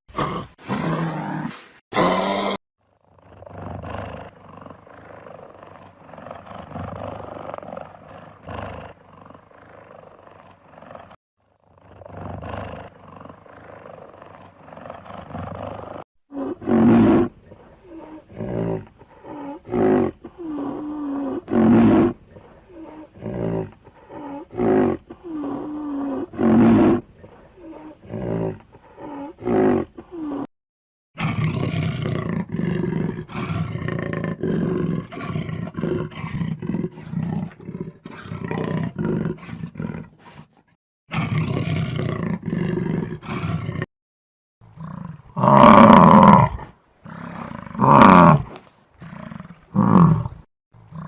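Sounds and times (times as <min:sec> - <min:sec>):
large animal roaring: 0:00.2 - 0:30.5, 0:31.2 - 0:40.2, 0:41.1 - 0:43.9, 0:44.8 - 0:51.0.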